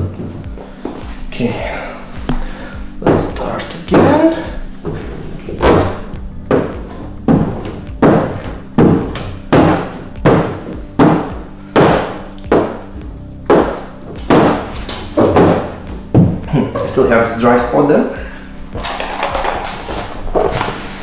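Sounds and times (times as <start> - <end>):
music with steady beat: 0.0 - 21.0.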